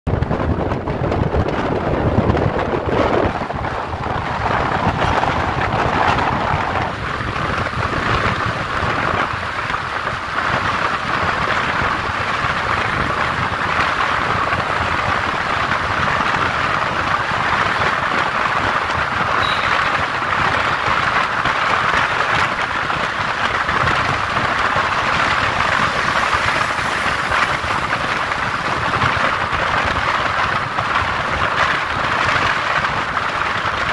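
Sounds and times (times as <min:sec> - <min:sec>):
wind and road noise: 0:00.0 - 0:33.9.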